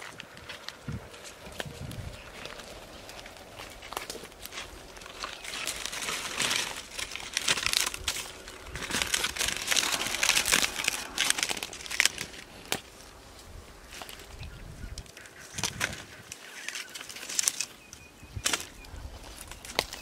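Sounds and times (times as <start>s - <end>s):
leaves crinkling and rustling: 0.0s - 20.0s.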